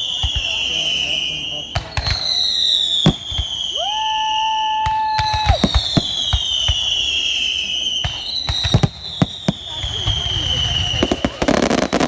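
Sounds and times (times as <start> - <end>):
firework bangs: 0.0 - 12.0
rising firework whistle: 0.0 - 12.0
whistling fireworks: 0.0 - 12.0.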